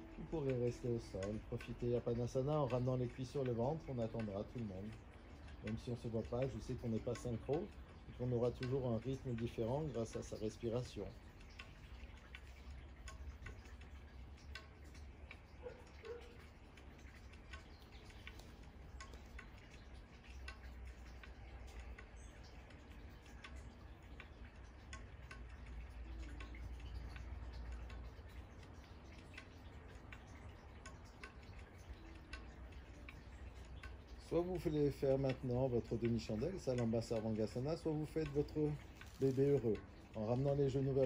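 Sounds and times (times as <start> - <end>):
faint small ticks: 0.0 - 41.0.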